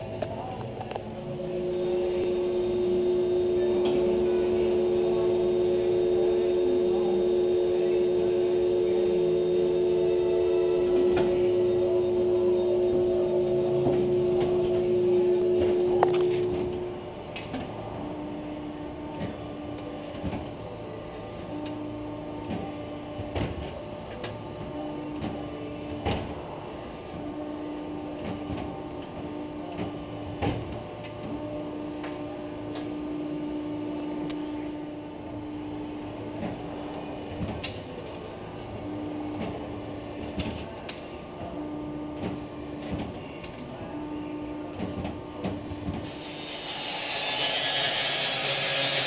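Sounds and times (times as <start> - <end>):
loud machine hum: 0.0 - 49.0
quiet machine hum: 0.0 - 49.0.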